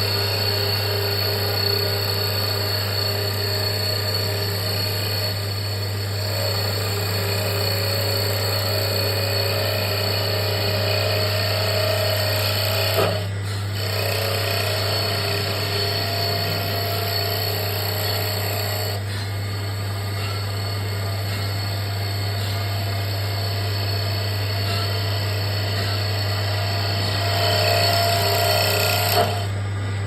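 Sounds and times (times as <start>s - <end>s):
machine motor humming with whine: 0.0s - 30.0s.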